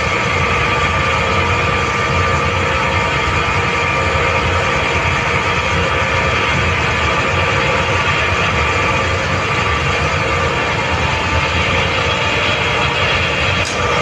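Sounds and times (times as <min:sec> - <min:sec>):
air compressor running: 0:00.0 - 0:14.0.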